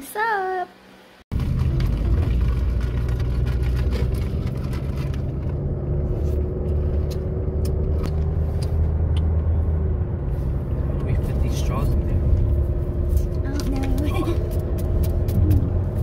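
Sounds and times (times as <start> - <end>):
car engine rumble from inside: 1.3 - 16.0.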